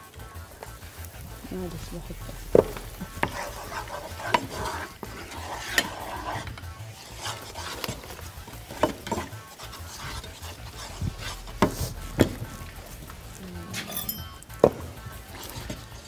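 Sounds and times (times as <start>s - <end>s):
wooden spoon scraping a pan: 1.4s - 16.0s.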